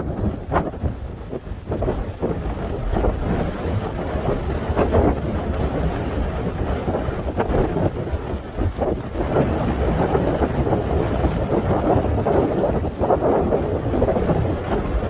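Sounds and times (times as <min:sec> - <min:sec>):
waves washing on shore: 0:00.0 - 0:15.0
wind buffeting microphone: 0:00.0 - 0:15.0.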